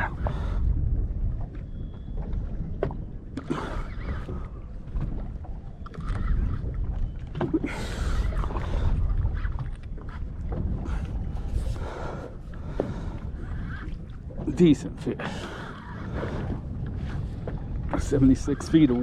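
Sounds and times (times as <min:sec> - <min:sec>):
water washing against hull: 0:00.0 - 0:19.0
wind rumbling on microphone: 0:00.0 - 0:19.0.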